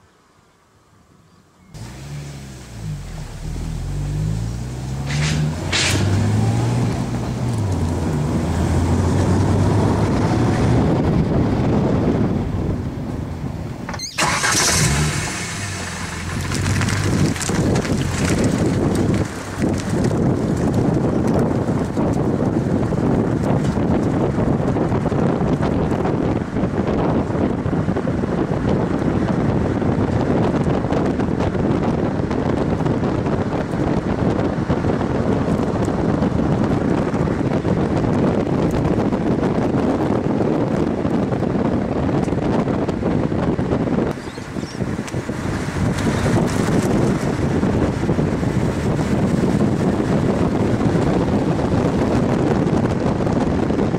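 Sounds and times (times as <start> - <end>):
road noise: 0.0 - 53.9
wind noise: 1.6 - 53.9
car engine running: 1.8 - 13.2, 14.0 - 53.9.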